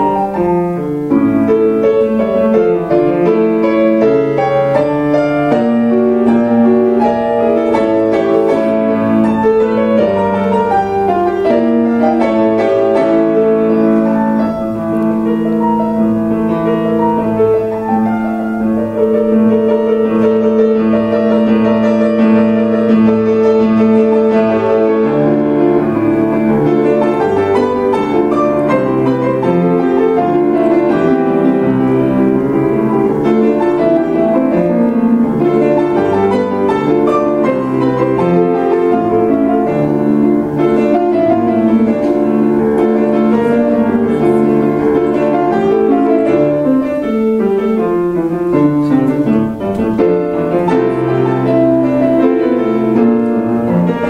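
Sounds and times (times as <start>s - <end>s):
classical piano duet: 0.0s - 54.0s.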